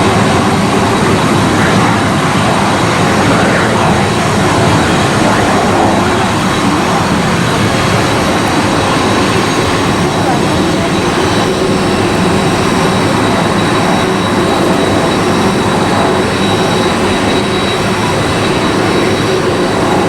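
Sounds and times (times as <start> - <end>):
faint high whine: 0.0 - 20.0
jet engines roaring: 0.0 - 20.0.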